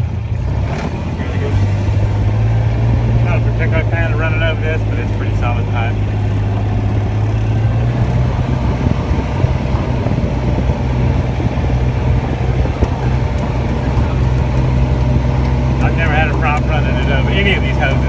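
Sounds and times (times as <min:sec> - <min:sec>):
uneven ride noise: 0:00.0 - 0:18.0
vehicle engine hum: 0:00.0 - 0:18.0.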